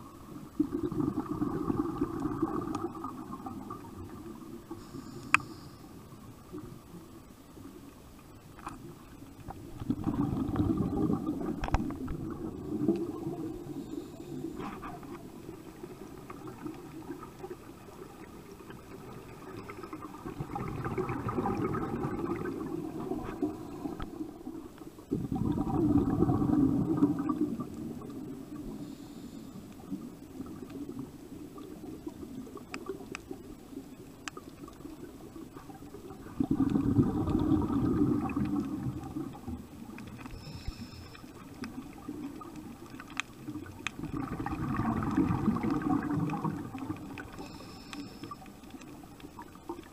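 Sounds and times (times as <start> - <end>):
gurgling underwater bubbles: 0.0 - 5.1, 8.8 - 49.9
faint clicks: 2.0 - 10.2, 11.2 - 25.1, 27.0 - 49.9
low water wash: 8.8 - 49.9.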